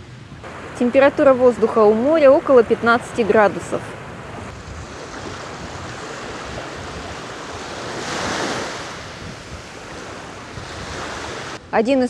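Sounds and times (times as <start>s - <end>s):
small waves breaking on sandy shore: 0.2s - 11.7s.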